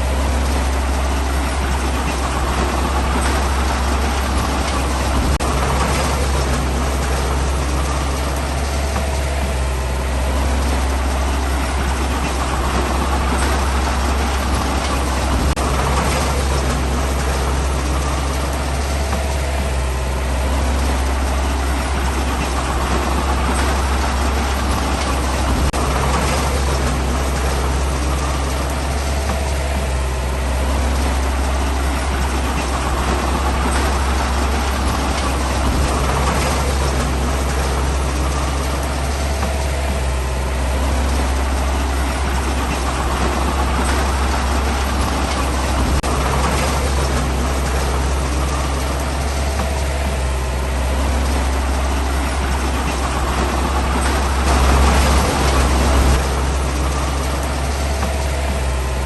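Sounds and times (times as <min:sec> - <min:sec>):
heavy diesel engine droning: 0:00.0 - 0:59.0
mechanical rumble: 0:00.0 - 0:59.0.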